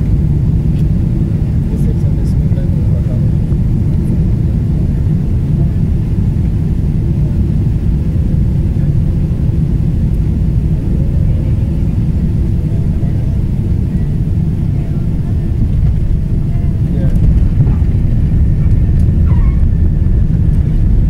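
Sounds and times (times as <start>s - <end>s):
jet engines rumbling in cabin: 0.0s - 21.0s.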